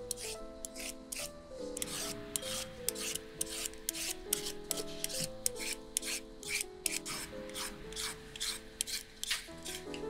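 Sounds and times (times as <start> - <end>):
background music: 0.0 - 10.0
peeler scraping carrot: 0.0 - 10.0.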